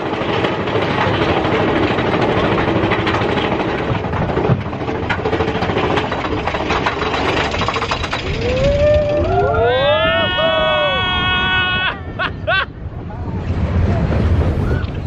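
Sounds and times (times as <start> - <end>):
roller coaster cars rattling: 0.0 - 15.0.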